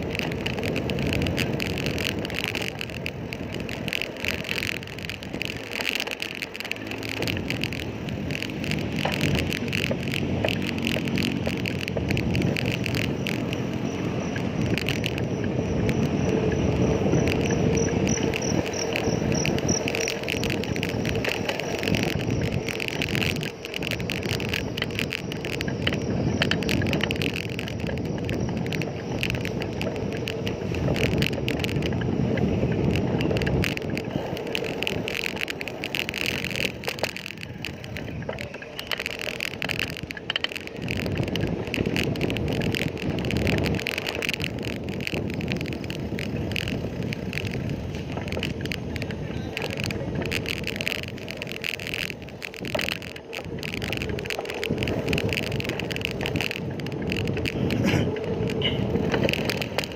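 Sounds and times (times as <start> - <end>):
bicycle rattles and clicks: 0.0 - 59.9
tyres rumbling on road: 0.0 - 59.9
wind buffeting microphone: 0.0 - 59.9.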